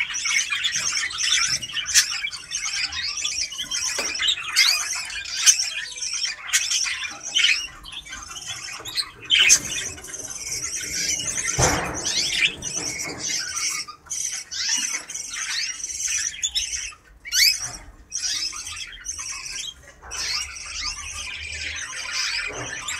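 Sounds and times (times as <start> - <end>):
canaries singing and chirping: 0.0 - 22.9.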